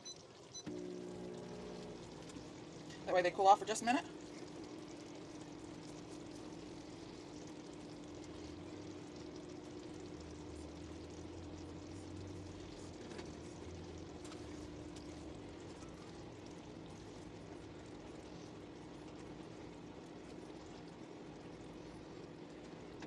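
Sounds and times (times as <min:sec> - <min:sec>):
pot of noodles boiling: 0:00.1 - 0:23.0.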